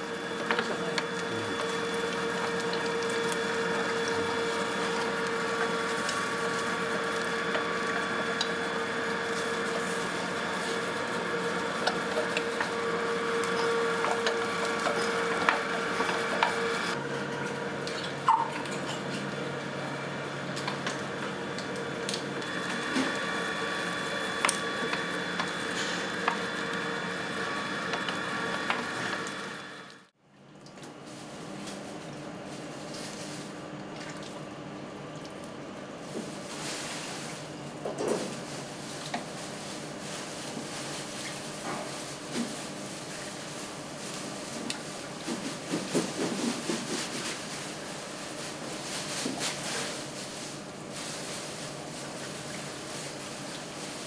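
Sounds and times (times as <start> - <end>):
kitchen equipment hum: 0.0 - 54.0.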